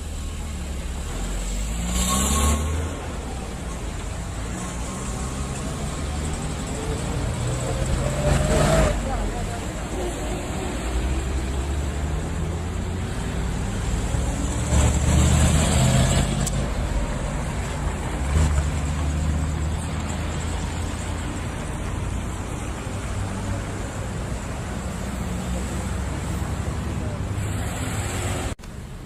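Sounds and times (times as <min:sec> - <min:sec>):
vehicle road and engine rumble: 0:00.0 - 0:29.0.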